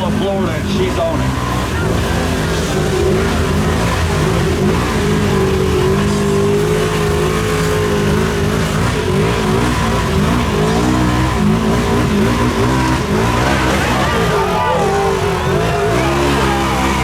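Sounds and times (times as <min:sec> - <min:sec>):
engine at high revs: 0:00.0 - 0:17.0.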